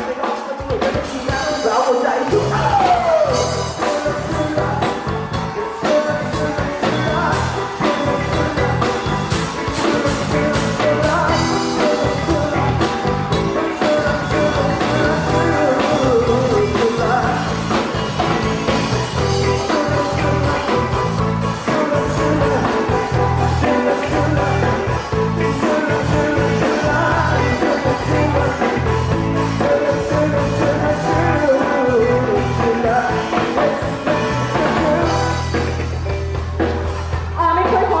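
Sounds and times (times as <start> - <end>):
person singing: 0.0 - 38.0
rock band playing: 0.0 - 38.0.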